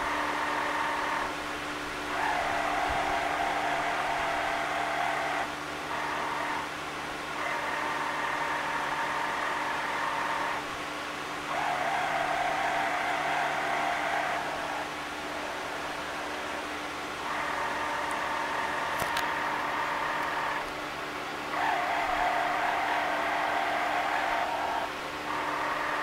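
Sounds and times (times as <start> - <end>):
motorized carriage whirring: 0.0 - 26.0.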